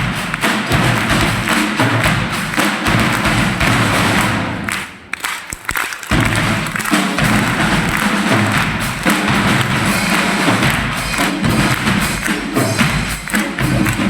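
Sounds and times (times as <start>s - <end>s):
heavy drum beats: 0.0s - 14.0s
loud percussion-driven music: 0.0s - 14.0s.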